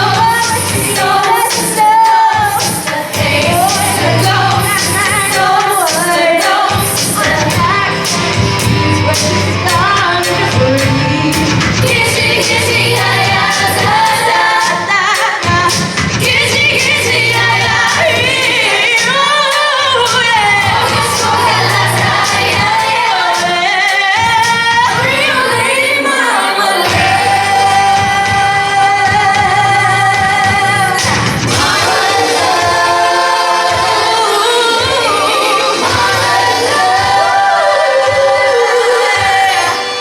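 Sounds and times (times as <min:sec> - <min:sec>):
bass line accompaniment: 0:00.0 - 0:25.8, 0:26.9 - 0:40.0
voices singing: 0:00.0 - 0:40.0.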